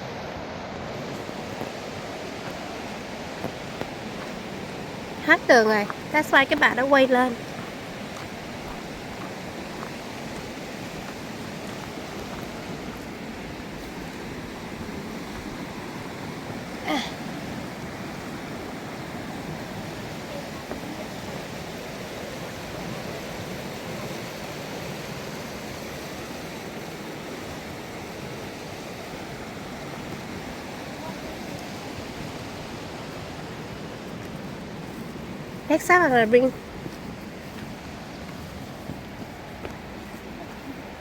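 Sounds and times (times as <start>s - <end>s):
river water rushing over rocks: 0.0s - 41.0s.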